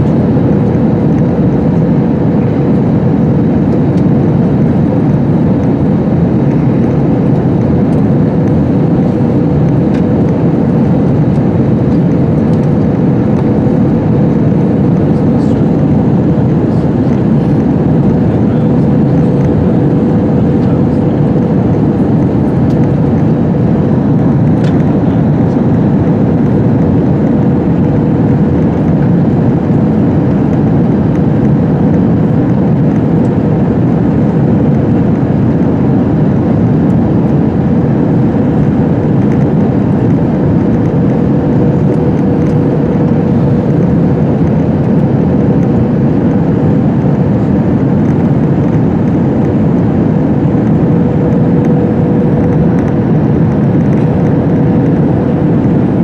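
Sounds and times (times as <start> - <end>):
jet engines roaring: 0.0 - 56.0
steady hum: 0.0 - 56.0.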